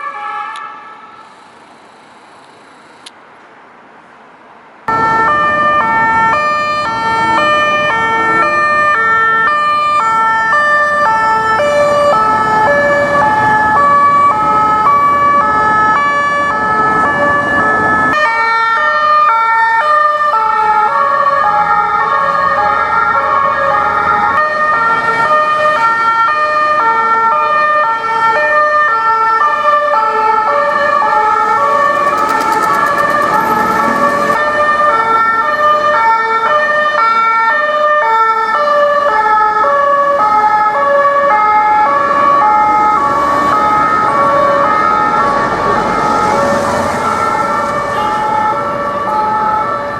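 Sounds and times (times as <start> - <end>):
two-tone police sirens: 0.0 - 1.3, 4.9 - 49.9
street traffic: 0.0 - 49.9.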